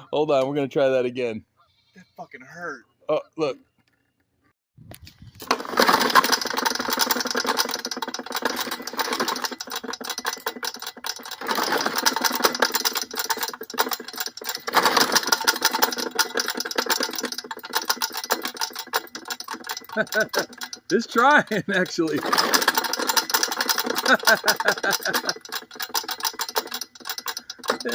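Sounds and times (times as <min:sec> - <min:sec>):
lawnmower engine cranking: 0:05.3 - 0:27.9.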